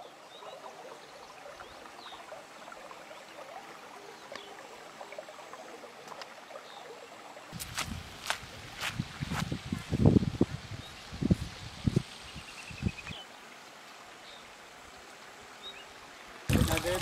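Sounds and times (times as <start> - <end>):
small stream running: 0.0 - 17.0.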